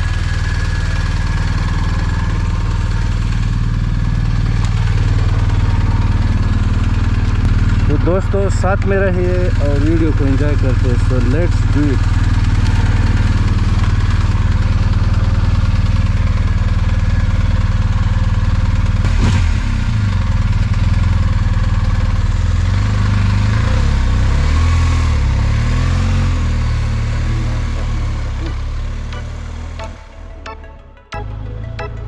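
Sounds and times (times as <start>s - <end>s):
motorcycle engine running: 0.0s - 30.2s.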